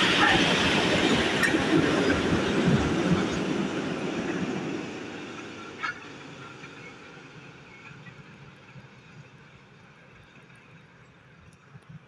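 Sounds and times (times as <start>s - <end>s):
train passing on rails: 0.0s - 12.0s.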